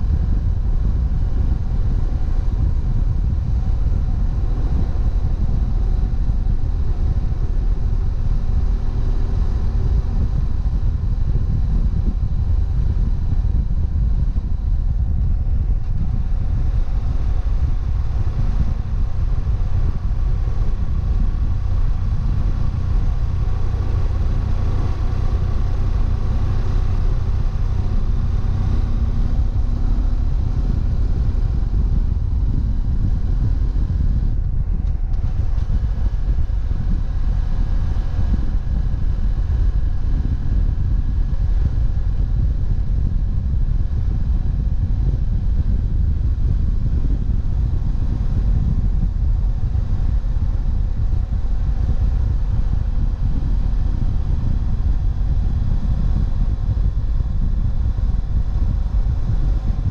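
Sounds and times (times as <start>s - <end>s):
motorcycle engine running: 0.0s - 59.9s
road noise: 0.0s - 59.9s
wind rush: 0.0s - 59.9s.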